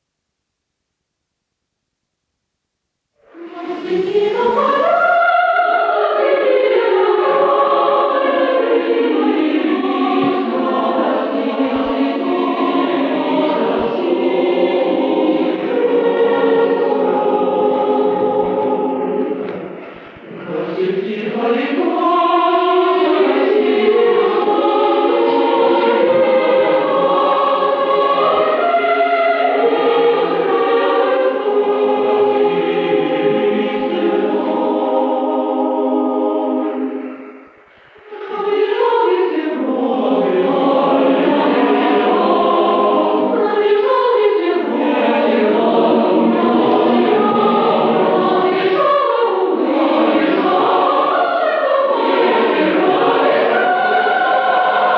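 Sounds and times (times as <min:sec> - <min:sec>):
choir singing: 0:03.2 - 0:54.9.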